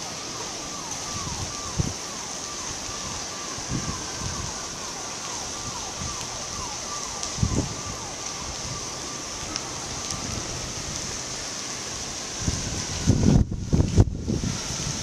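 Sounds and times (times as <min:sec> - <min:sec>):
distant electronic siren: 0:00.0 - 0:15.0
hurricane wind and rain: 0:00.0 - 0:15.0
wind buffeting microphone: 0:00.8 - 0:15.0.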